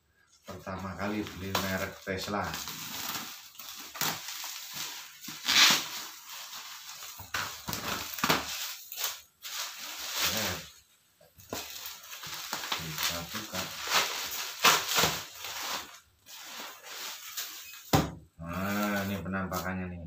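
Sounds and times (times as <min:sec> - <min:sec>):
bubble wrap rustling and crinkling: 0:00.4 - 0:19.8.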